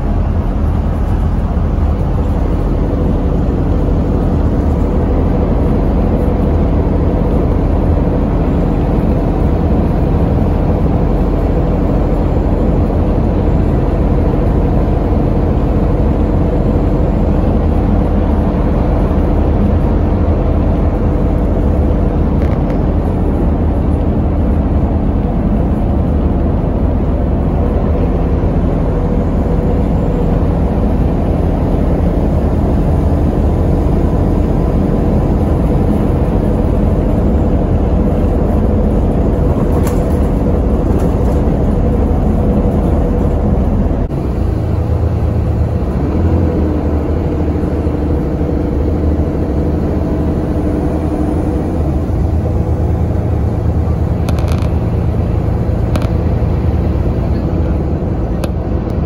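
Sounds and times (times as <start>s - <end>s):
bus engine drone: 0.0s - 59.0s
tyre and road rumble: 0.0s - 59.0s.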